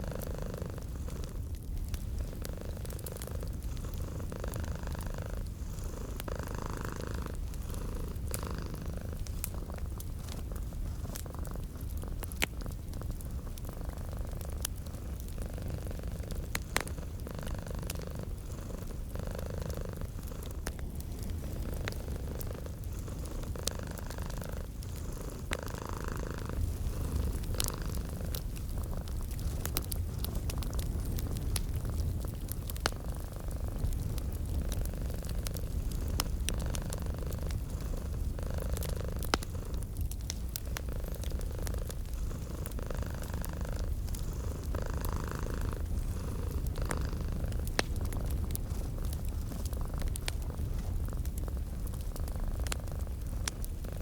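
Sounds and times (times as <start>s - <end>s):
cat purring: 0.0s - 54.0s
wood fire crackling: 0.0s - 54.0s.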